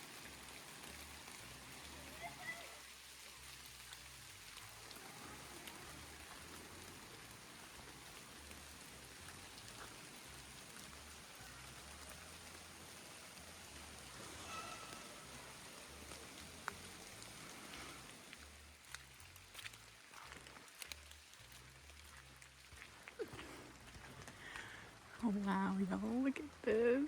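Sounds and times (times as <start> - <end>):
rain hiss: 0.0 - 27.0
raindrop ticks: 0.0 - 27.0.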